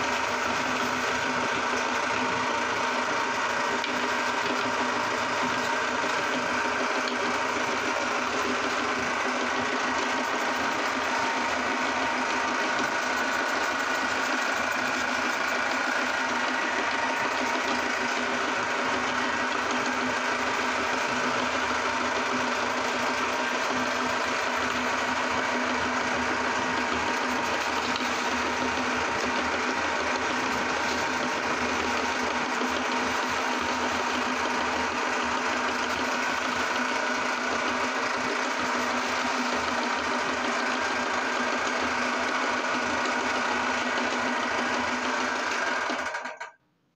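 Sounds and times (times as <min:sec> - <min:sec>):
cookies being ground: 0:00.0 - 0:46.4
meat grinder motor hum: 0:00.0 - 0:46.6.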